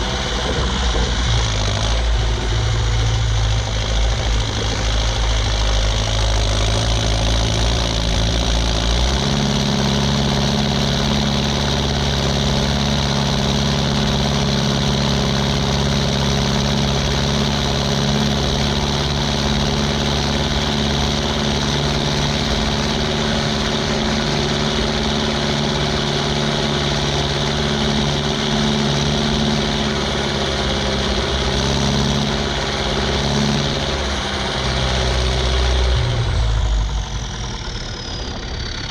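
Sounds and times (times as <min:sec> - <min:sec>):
diesel tractor engine droning: 0:00.0 - 0:38.9.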